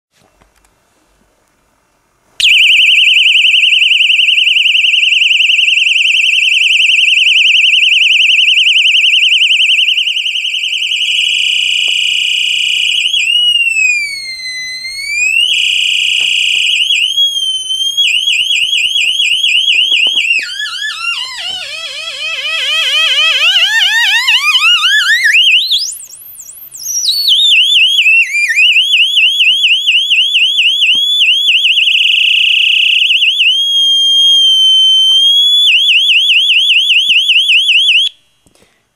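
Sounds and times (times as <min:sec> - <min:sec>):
warbling electronic siren tone: 0:02.4 - 0:36.7.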